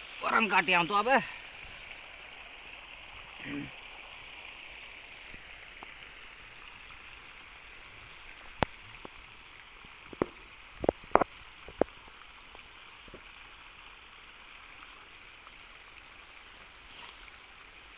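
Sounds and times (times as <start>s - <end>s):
outdoor field hiss: 0.0s - 17.9s.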